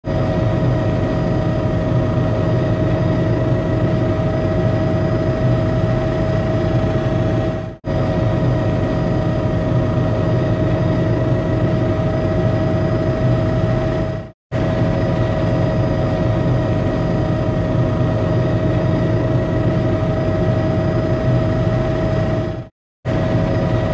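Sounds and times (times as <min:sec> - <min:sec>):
aircraft engine drone: 0:00.0 - 0:23.9.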